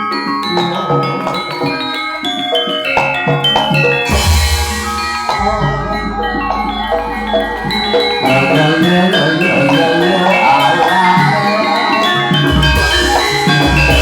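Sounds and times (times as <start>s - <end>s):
gamelan playing: 0.0s - 14.0s.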